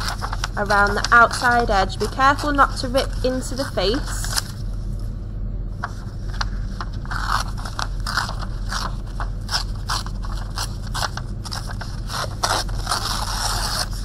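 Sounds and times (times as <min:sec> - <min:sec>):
paper tearing: 0:00.0 - 0:04.6, 0:06.8 - 0:14.0.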